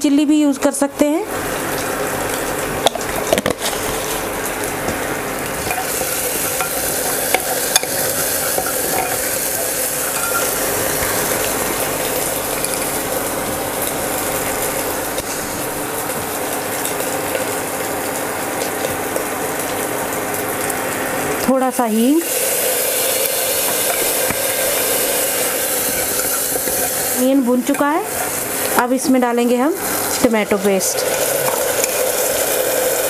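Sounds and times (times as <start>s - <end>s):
masala sizzling in hot oil: 0.3s - 33.0s.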